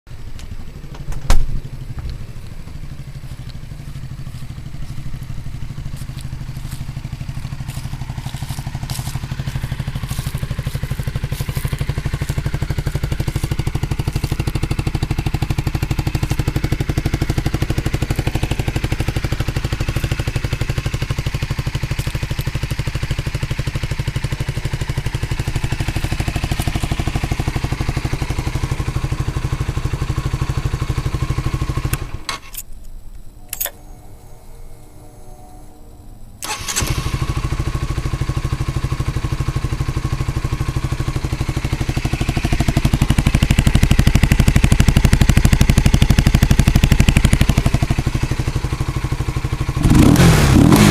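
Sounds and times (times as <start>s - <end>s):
motorcycle engine running: 0.1s - 32.4s, 33.5s - 50.9s.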